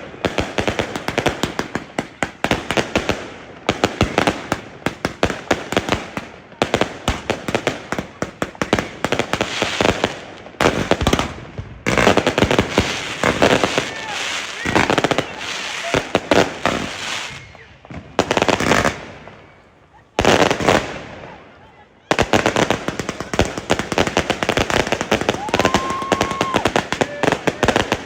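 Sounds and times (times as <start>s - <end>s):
firecrackers popping: 0.0s - 28.0s.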